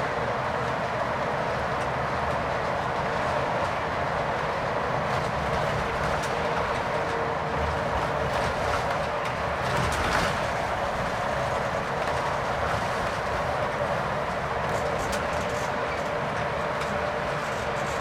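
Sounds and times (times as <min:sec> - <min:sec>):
road and engine noise in cabin: 0:00.1 - 0:18.0.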